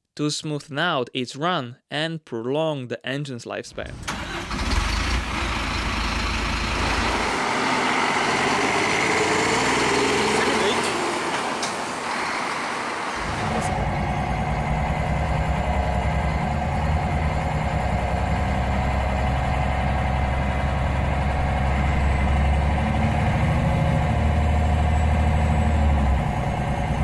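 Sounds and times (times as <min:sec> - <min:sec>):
diesel engine running: 0:04.0 - 0:27.0.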